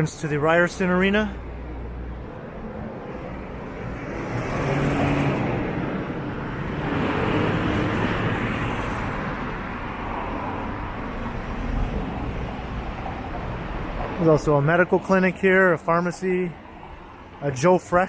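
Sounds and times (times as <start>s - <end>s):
cars driving past: 0.8s - 17.5s.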